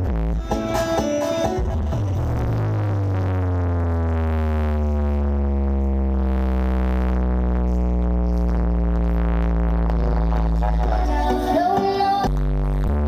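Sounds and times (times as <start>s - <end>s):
deep held bass: 0.0s - 13.0s
synthesizer note gliding down: 0.0s - 13.0s.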